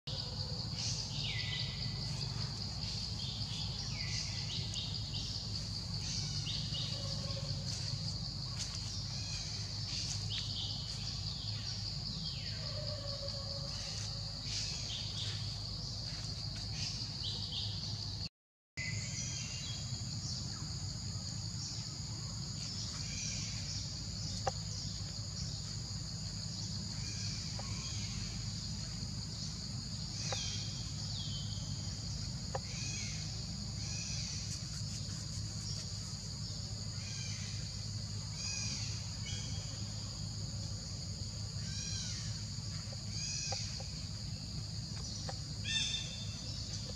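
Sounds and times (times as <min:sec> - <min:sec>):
high insect drone: 0:00.1 - 0:46.9.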